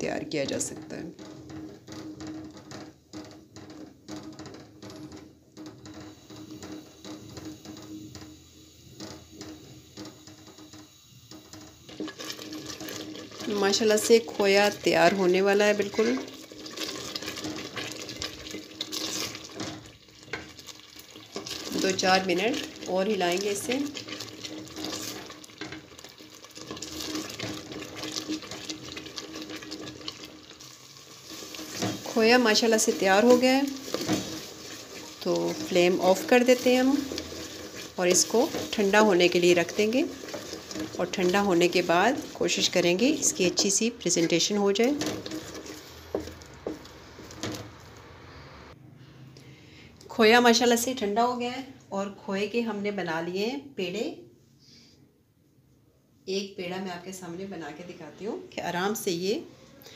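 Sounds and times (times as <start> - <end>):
wooden spatula scraping metal pot: 0.0 - 48.5
fine crackling of cooking milk: 0.0 - 48.7, 56.6 - 59.9.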